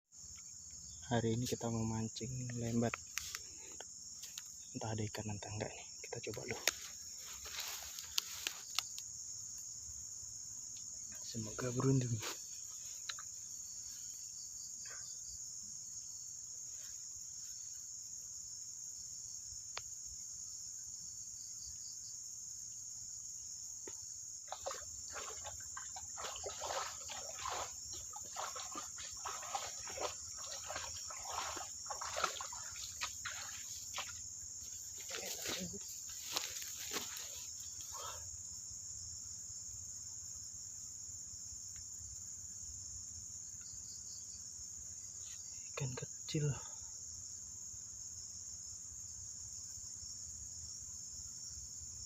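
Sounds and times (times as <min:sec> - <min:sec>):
insects chirping: 0:00.0 - 0:52.0.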